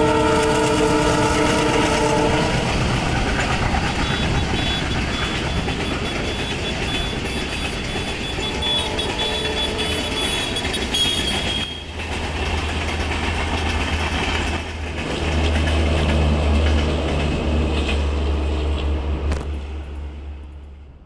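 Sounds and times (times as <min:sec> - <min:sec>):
train wheels on rails: 0:00.0 - 0:20.9.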